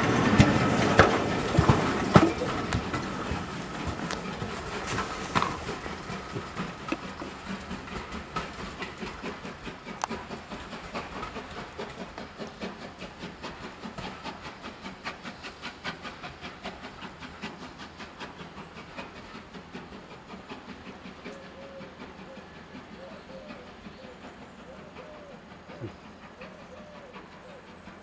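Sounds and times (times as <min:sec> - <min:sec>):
train wheels clicking: 0:00.0 - 0:28.0.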